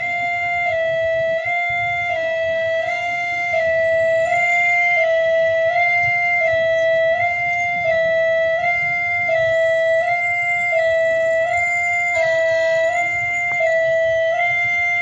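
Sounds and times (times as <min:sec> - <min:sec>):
level crossing two-note alarm: 0:00.0 - 0:15.0.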